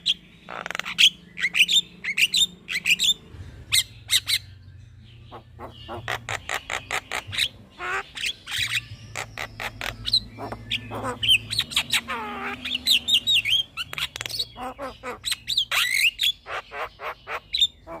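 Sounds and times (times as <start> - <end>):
myna squawks and chirps: 0.0 - 4.6, 5.3 - 18.0.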